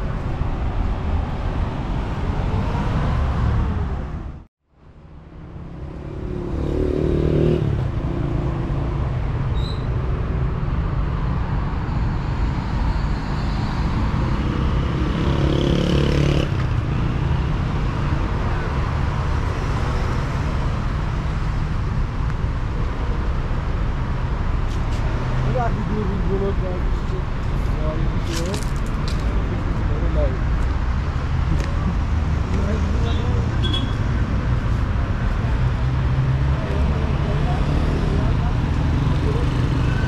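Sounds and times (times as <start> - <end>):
cars driving along street: 0.0 - 40.0
loud vehicles passing: 0.0 - 40.0.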